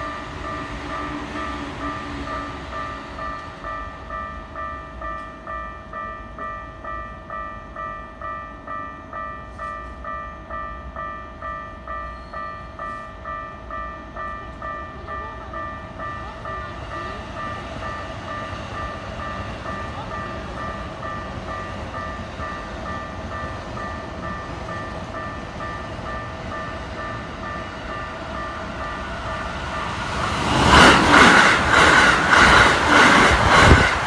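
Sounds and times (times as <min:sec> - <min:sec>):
level crossing warning bell: 0:00.0 - 0:34.0.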